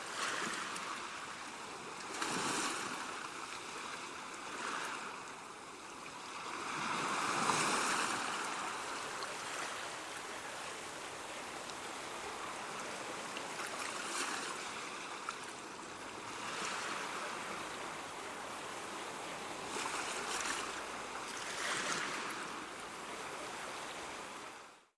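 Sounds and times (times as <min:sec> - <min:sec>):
ocean waves breaking: 0:00.0 - 0:24.7.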